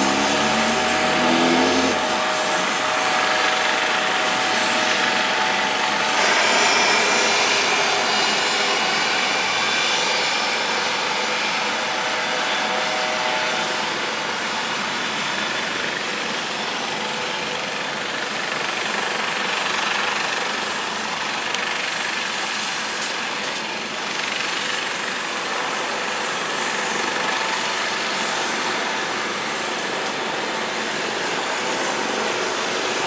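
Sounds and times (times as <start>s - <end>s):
helicopter engines and rotors: 0.0s - 33.0s.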